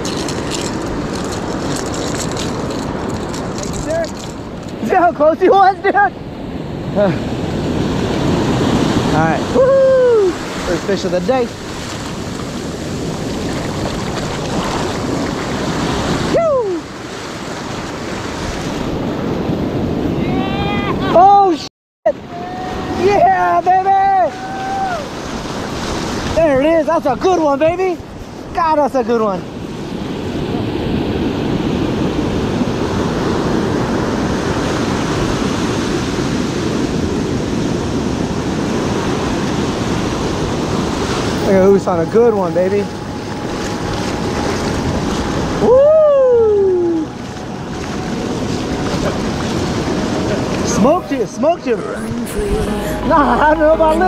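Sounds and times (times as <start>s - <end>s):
wind buffeting microphone: 0.0s - 21.4s, 22.7s - 54.0s
ocean surf washing on beach: 0.0s - 54.0s.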